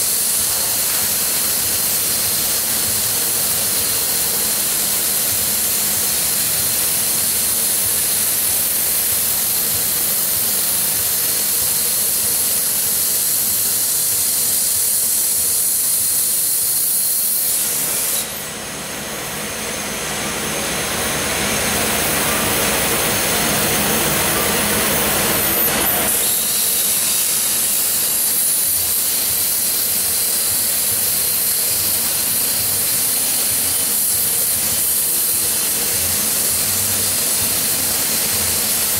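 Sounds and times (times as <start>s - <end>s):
rushing hiss: 0.0s - 18.6s, 21.4s - 38.9s
plasma torch hissing: 0.0s - 38.9s.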